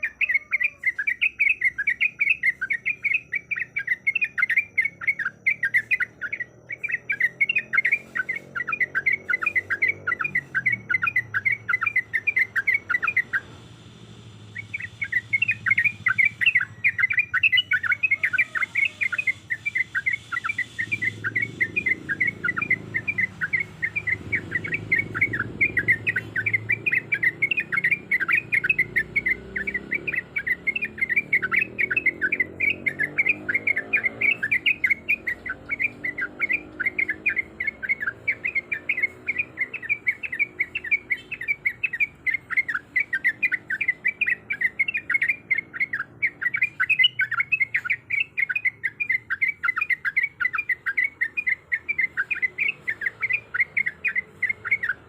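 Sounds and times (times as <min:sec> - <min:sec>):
bird chirping rapidly: 0:00.0 - 0:55.0.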